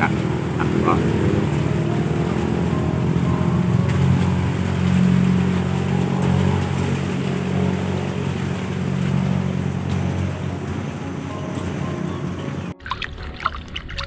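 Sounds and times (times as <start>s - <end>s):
engine droning: 0.0s - 13.4s.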